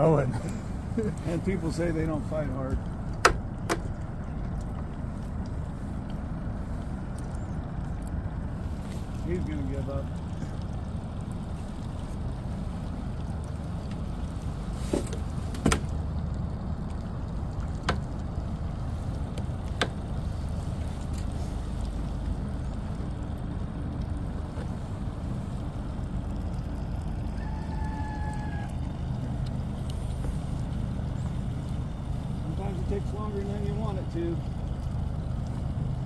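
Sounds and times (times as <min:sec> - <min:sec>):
boat motor humming: 0:00.0 - 0:36.0.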